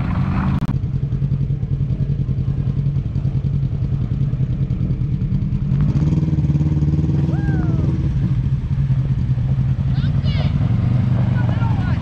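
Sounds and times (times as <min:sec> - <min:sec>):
utility vehicle engine running: 0:00.0 - 0:12.0.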